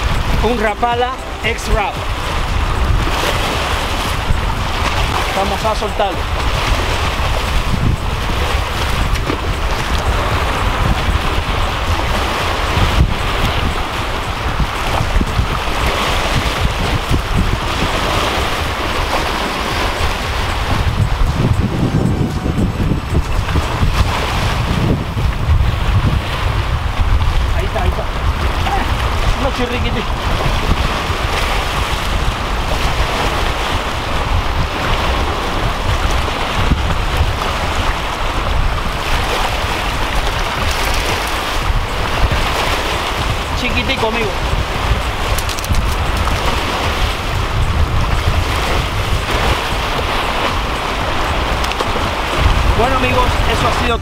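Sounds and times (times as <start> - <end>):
waves breaking over rocks: 0.0 - 54.0
wind buffeting microphone: 0.0 - 54.0.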